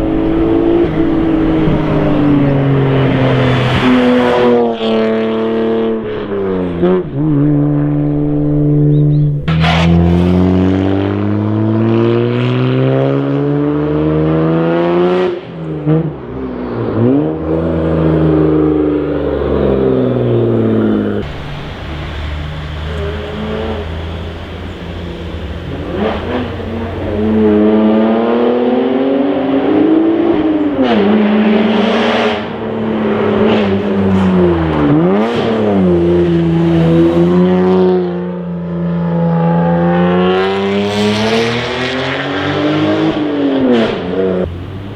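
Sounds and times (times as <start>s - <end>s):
car engine exhaust accelerating: 0.0s - 44.9s.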